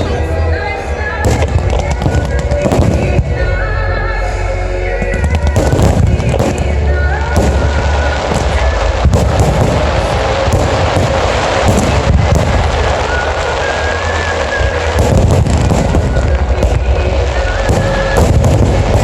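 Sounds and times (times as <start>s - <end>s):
fireworks bangs and crackles: 0.0s - 3.8s, 4.9s - 19.0s
loud music with deep bass: 0.0s - 19.0s.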